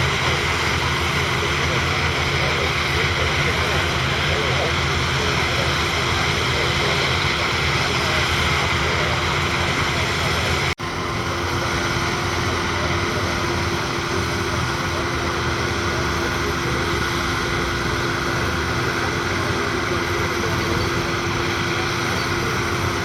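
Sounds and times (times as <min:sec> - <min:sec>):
combine harvester diesel engine: 0:00.0 - 0:23.0.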